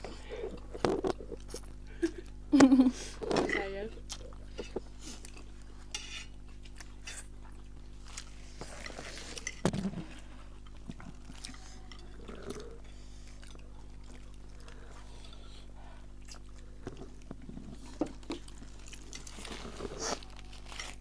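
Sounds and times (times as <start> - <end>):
quiet chewing: 0.0 - 21.0.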